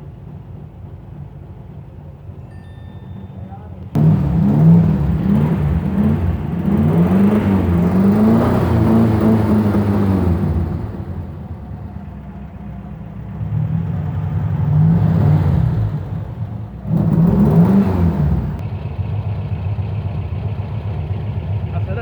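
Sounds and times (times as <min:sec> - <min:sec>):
car engine revving and idling: 0:03.9 - 0:22.0.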